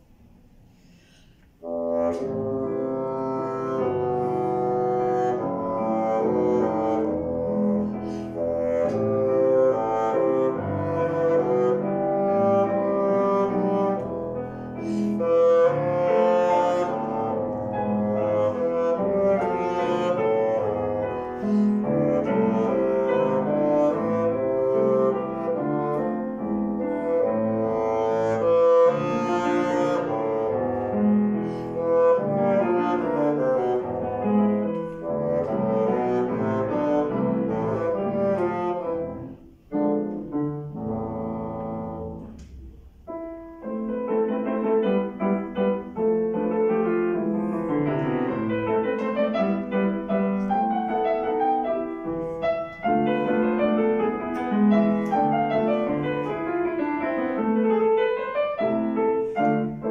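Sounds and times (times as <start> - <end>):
piano: 0.0 - 59.9
bassoon: 1.6 - 59.9.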